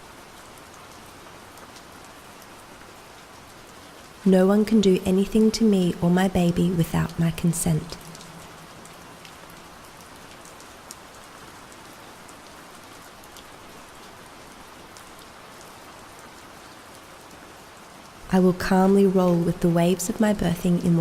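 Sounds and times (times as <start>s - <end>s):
gentle rain falling: 0.0s - 21.0s
raindrops pattering: 0.0s - 21.0s.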